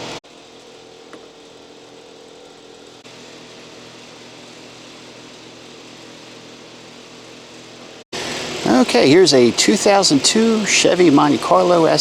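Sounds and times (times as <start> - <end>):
ambient hum and hiss: 0.0 - 12.0.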